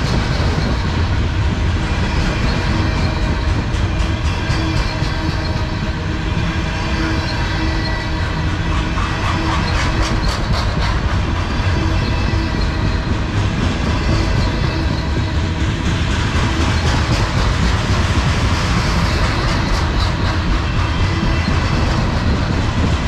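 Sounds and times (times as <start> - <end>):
freight train wheels rumbling on rail: 0.0 - 23.0.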